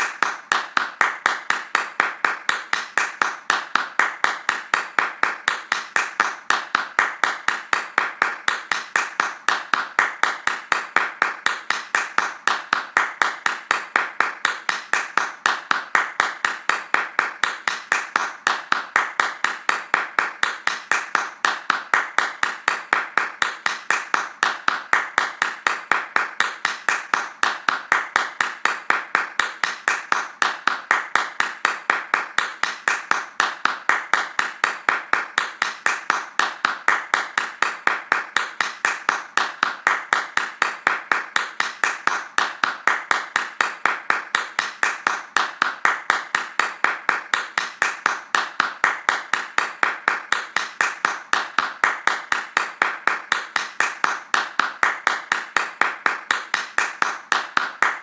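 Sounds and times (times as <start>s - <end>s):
hands clapping fast: 0.0s - 58.0s.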